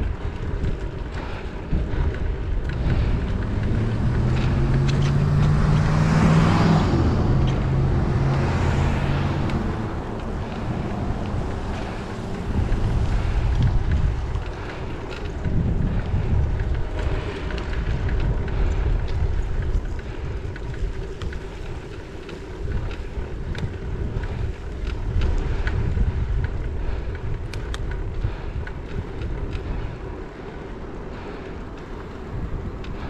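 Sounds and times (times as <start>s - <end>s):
road and tyre noise: 0.0s - 33.0s
wind buffeting microphone: 0.0s - 33.0s.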